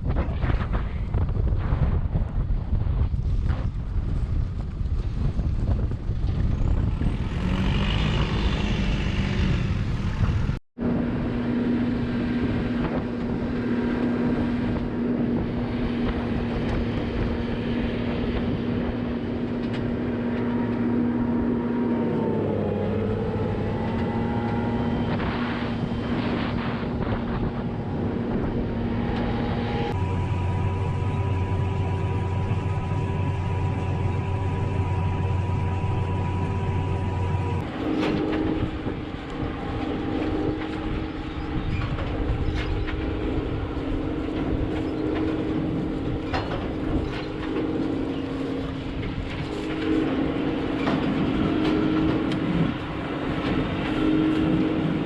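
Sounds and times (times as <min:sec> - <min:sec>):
farm machinery engines running: 0:00.0 - 0:55.0.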